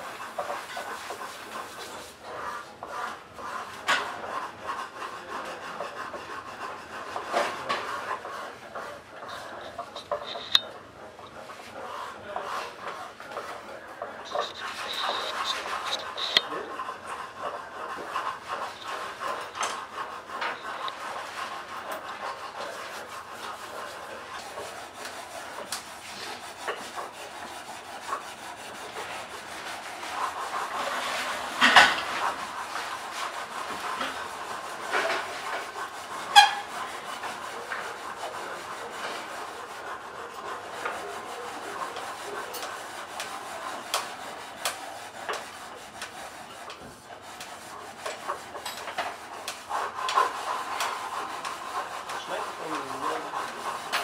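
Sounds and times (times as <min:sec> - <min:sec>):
metal rubbing and scraping: 0:00.0 - 0:54.0.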